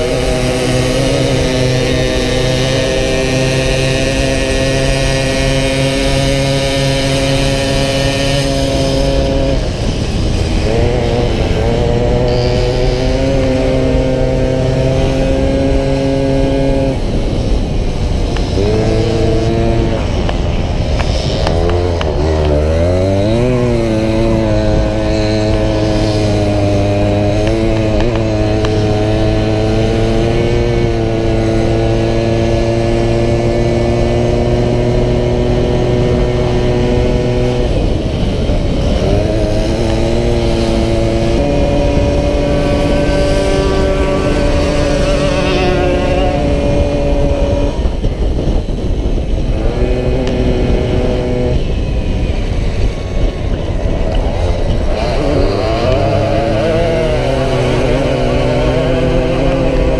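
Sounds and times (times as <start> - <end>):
moped two-stroke engine running: 0.0 - 59.9.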